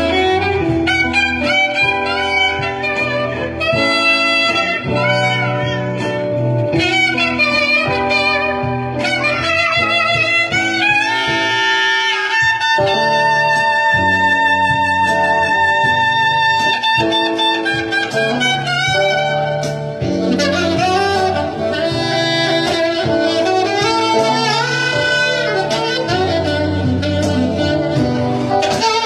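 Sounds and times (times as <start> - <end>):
bass line: 0.0 - 29.0
electric guitar: 0.0 - 29.0
saxophone melody: 0.0 - 29.0.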